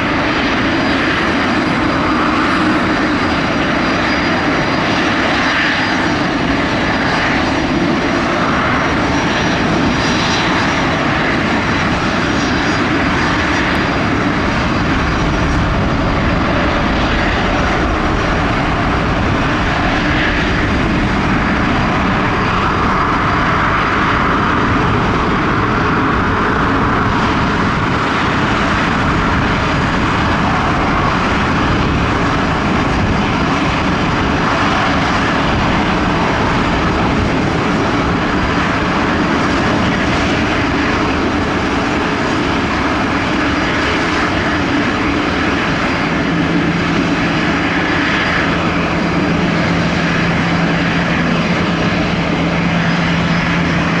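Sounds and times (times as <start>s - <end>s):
loud jet engine noise: 0.0s - 54.0s.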